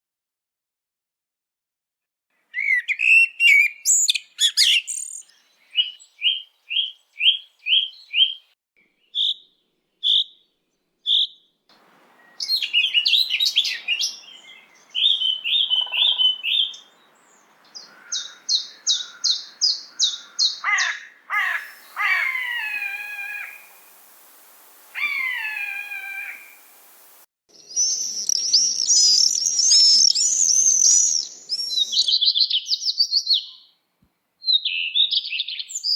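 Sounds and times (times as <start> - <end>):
bird song: 2.4 - 33.8, 34.4 - 35.9.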